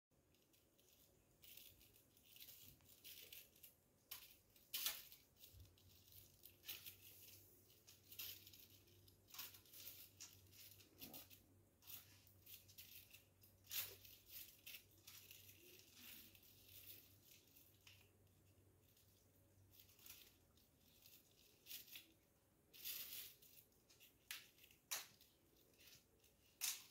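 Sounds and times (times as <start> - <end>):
kitten scratching wallpaper: 0.2 - 26.9.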